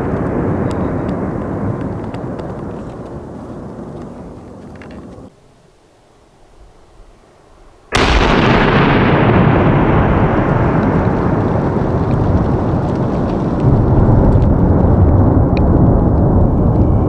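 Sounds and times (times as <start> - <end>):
firecracker blast: 0.0 - 5.3, 7.9 - 17.0
rolling echo rumble: 0.0 - 5.3, 8.0 - 17.0.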